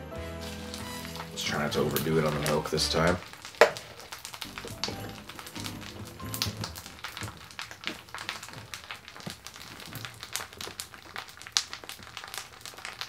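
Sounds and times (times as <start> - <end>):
cereal crackling in milk: 0.4 - 13.0.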